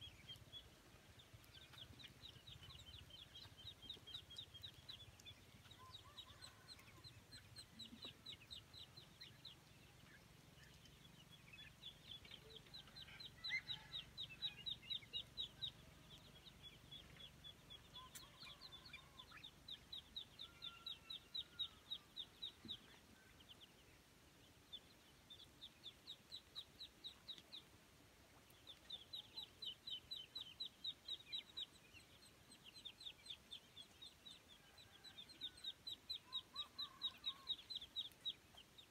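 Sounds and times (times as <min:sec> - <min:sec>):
ducklings and chicks peeping: 0:00.0 - 0:38.9.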